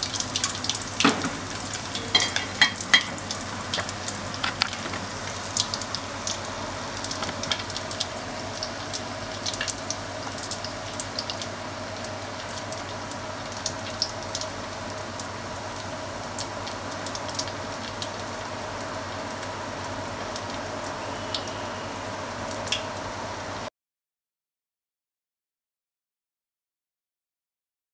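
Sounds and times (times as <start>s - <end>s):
frying oil sizzling and popping: 0.0s - 23.7s.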